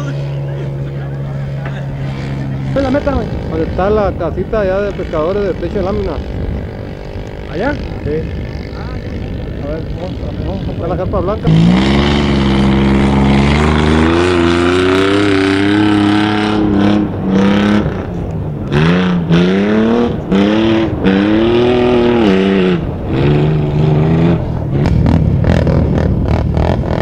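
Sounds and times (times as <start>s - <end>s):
quad engine revving: 0.0s - 27.0s.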